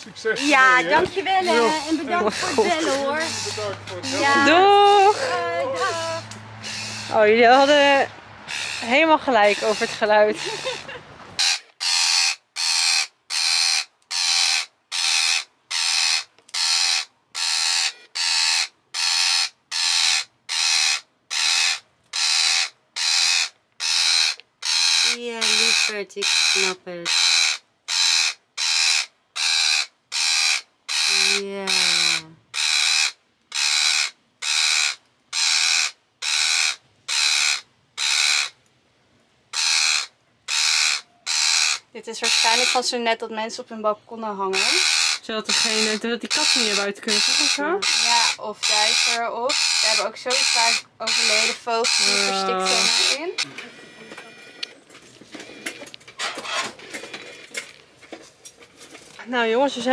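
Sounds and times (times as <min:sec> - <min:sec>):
parakeet screeching: 0:00.3 - 0:38.6, 0:39.5 - 0:43.0, 0:44.5 - 0:54.5, 0:55.5 - 0:57.1.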